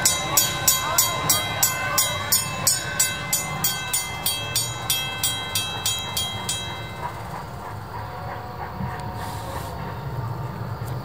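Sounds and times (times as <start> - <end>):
railroad crossing bell ringing: 0.0 - 10.8
train rumbling past: 0.0 - 11.0.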